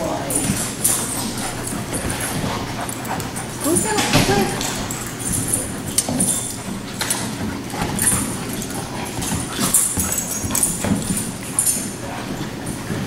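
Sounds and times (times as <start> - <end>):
dog claws clicking on hard floor: 0.0 - 13.0
dog vocal sounds: 0.0 - 13.0.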